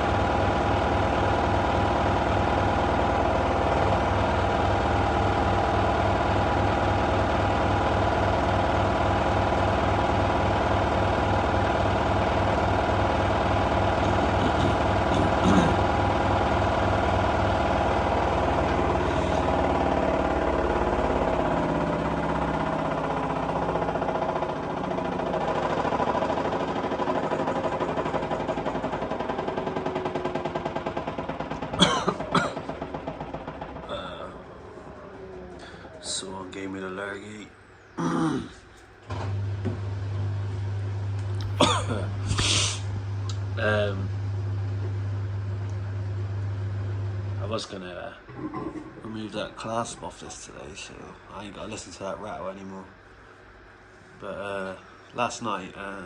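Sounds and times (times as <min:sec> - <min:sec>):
washing machine spinning: 0:00.0 - 0:37.8, 0:38.9 - 0:56.0.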